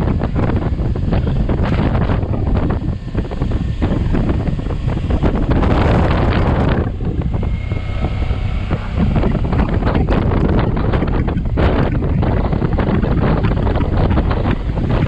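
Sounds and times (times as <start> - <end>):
motorcycle engine: 0.0 - 15.0
road noise: 0.0 - 15.0
wind buffeting microphone: 0.0 - 15.0.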